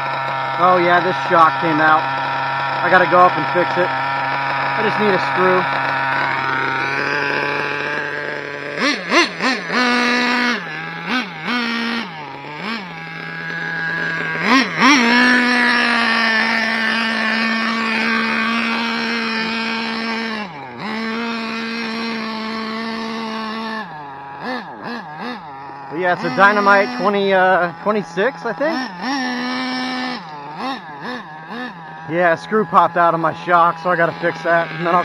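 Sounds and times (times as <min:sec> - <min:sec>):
model car nitro engine revving: 0:00.0 - 0:35.0.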